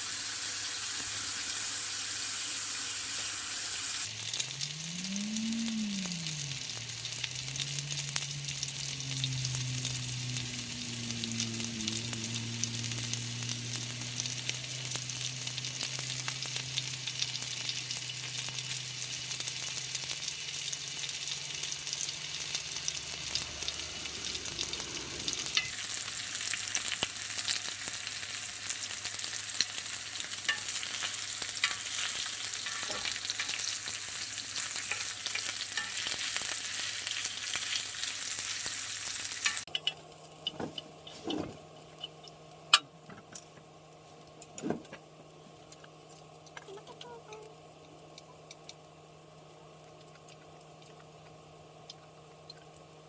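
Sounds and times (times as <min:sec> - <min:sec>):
food sizzling in a hot pan: 0:00.0 - 0:40.8, 0:46.0 - 0:53.0.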